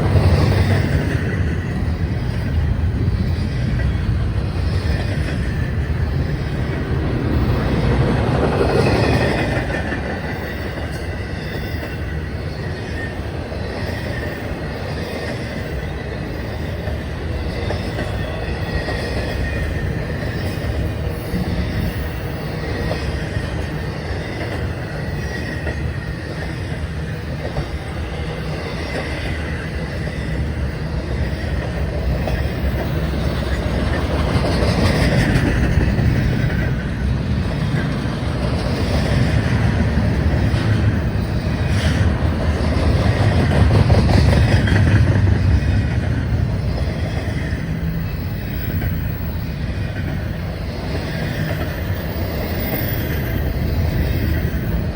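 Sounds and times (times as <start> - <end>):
rail joint clicks: 0.0 - 54.9
train wheels rumbling on rail: 0.0 - 54.9.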